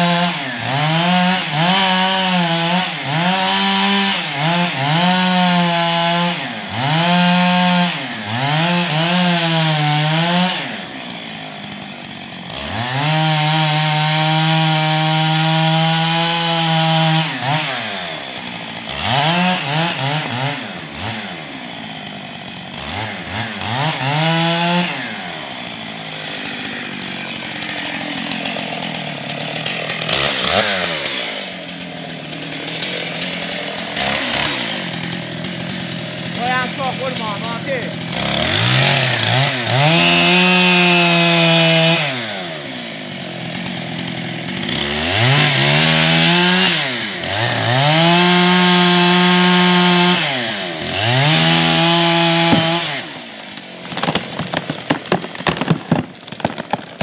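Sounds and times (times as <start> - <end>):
chainsaw cutting into tree trunk: 0.0 - 57.0.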